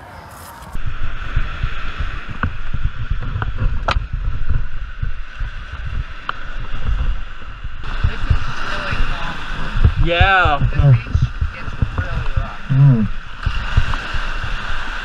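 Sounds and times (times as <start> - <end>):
surf washing on beach: 0.2 - 15.0
wind buffeting microphone: 0.7 - 14.8.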